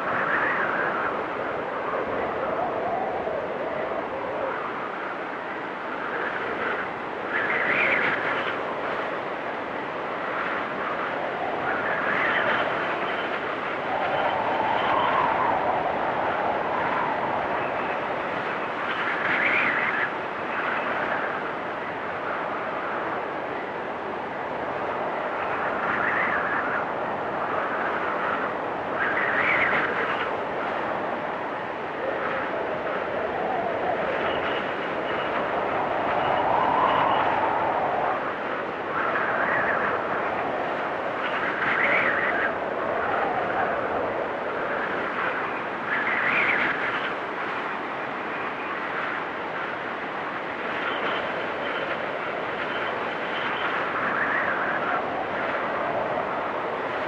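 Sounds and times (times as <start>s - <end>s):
storm wind whistling in gusts: 0.0s - 57.0s.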